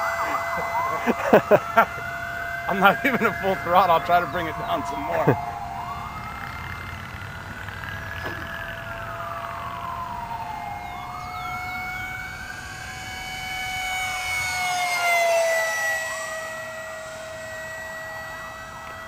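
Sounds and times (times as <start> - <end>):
model jet whining: 0.0 - 19.0
wailing siren-like tone: 0.0 - 19.0.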